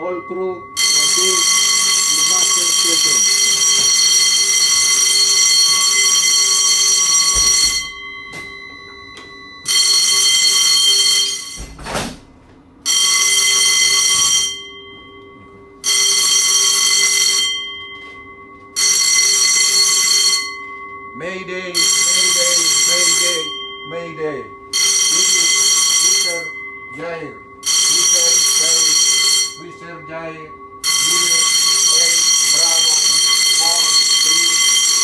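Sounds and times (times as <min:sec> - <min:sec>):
ship alarm blasts: 0:00.0 - 0:11.8, 0:12.8 - 0:35.0.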